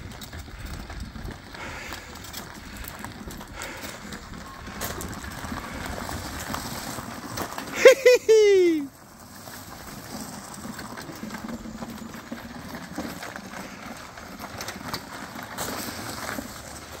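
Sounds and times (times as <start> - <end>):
tyres crunching on gravel: 0.0 - 17.0.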